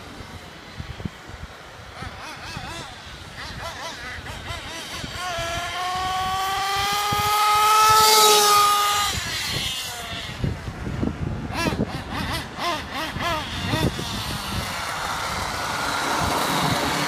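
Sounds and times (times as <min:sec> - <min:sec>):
model car engine buzzing: 0:00.2 - 0:17.0.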